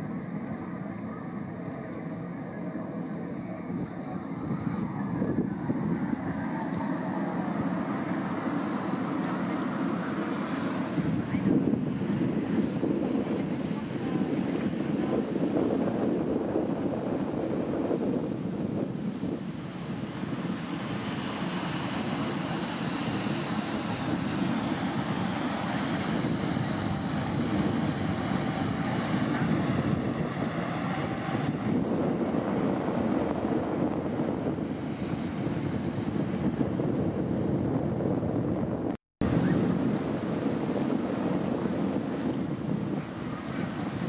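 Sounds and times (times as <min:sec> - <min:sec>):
wind blowing across microphone: 0:00.0 - 0:44.0.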